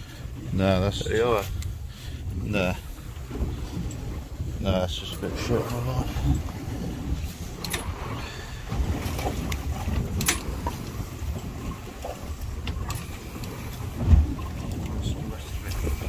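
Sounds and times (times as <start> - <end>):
boat noise: 0.0 - 16.0
wind rumble on microphone: 0.0 - 16.0.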